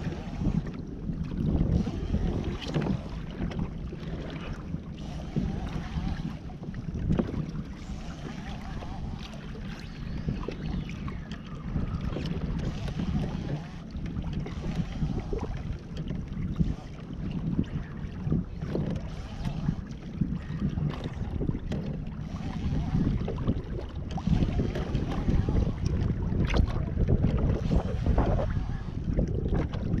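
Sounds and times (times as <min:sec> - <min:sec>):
low rumble: 0:00.0 - 0:30.0
water splashing against hull: 0:00.0 - 0:30.0
wind buffeting microphone: 0:00.0 - 0:30.0.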